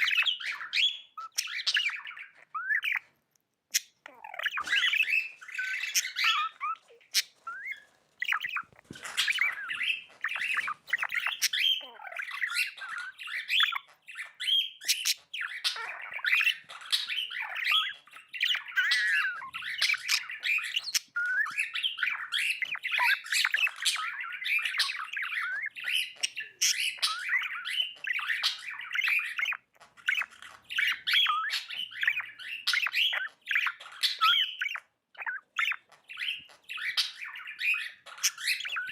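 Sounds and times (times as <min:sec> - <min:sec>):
budgie chattering and chirping: 0:00.0 - 0:38.9.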